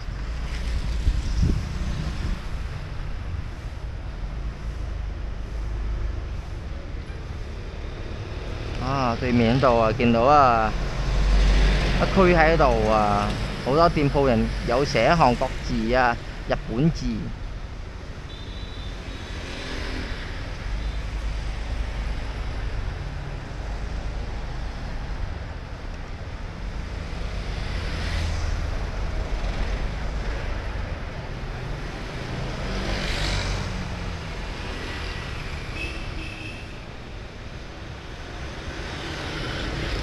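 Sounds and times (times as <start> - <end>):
loud vehicles passing close: 0.0 - 40.0
traffic hum: 0.0 - 40.0.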